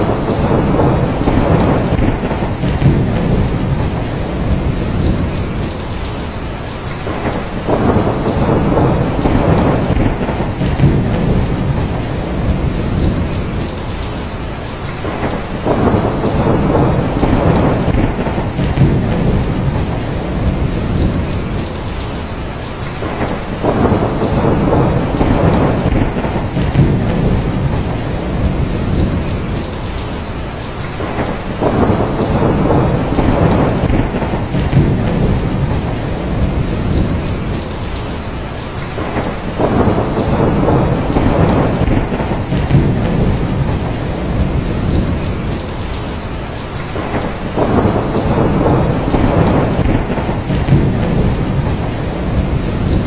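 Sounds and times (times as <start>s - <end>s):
heavy rain: 0.0s - 53.0s
thunder rolling: 0.0s - 53.0s.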